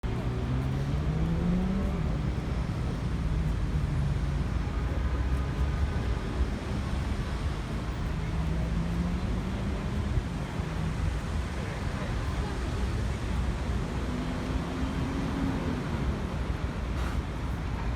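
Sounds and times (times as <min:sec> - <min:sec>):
road traffic rumble: 0:00.0 - 0:17.9.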